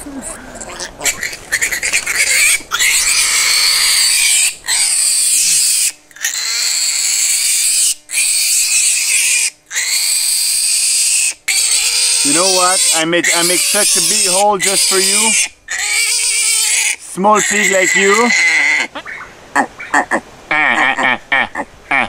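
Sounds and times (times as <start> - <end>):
piglet squealing: 0.0 - 22.0.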